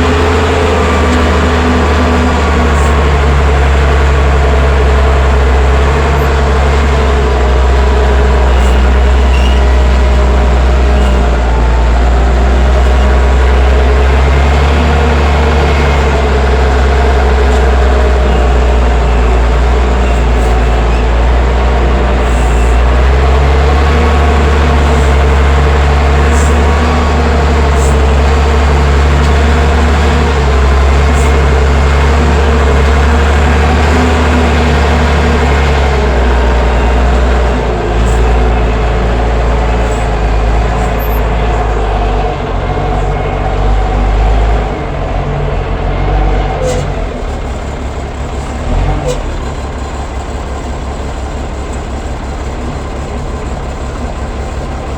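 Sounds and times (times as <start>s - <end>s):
wheel loader diesel engine: 0.0s - 54.9s.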